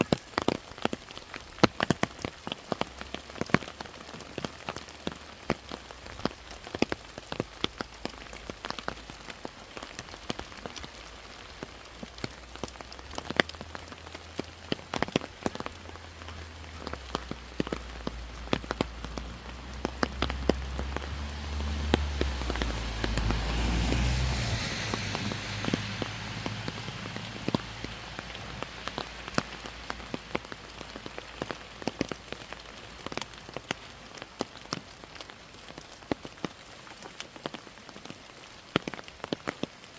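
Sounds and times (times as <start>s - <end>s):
raindrops ticking close by: 0.0s - 39.9s
steady rain: 0.0s - 39.9s.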